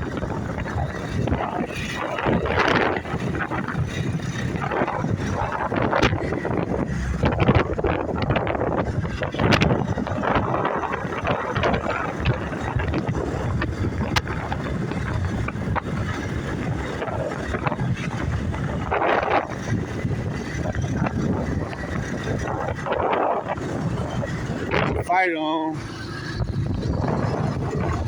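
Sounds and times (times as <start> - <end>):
motorbike engine: 0.0 - 28.0
road noise: 0.0 - 28.0
wind buffeting microphone: 0.0 - 28.0.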